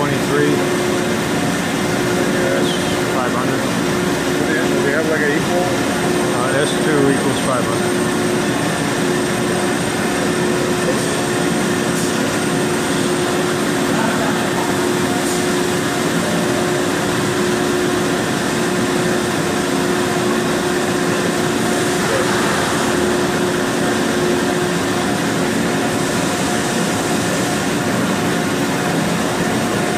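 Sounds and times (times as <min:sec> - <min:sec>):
lathe machine drone: 0:00.0 - 0:29.9.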